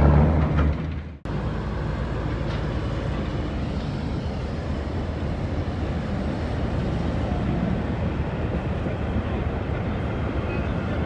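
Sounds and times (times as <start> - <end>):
heavy diesel machinery rumbling: 0.0 - 11.0.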